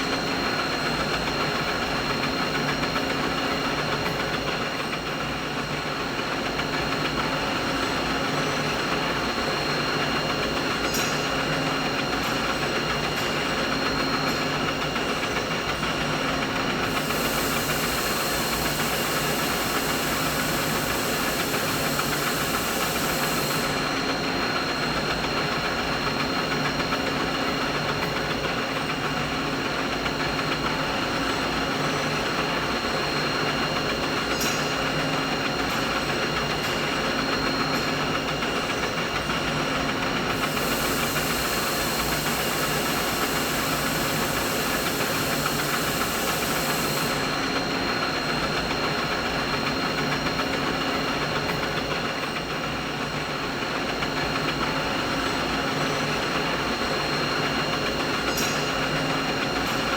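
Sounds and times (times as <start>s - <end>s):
machinery hum and hiss: 0.0s - 59.9s.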